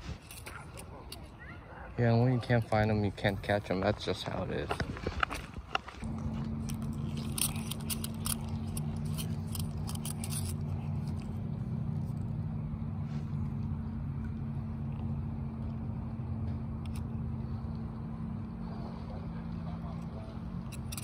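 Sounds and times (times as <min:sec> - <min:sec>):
low motor hum: 0:02.8 - 0:21.0.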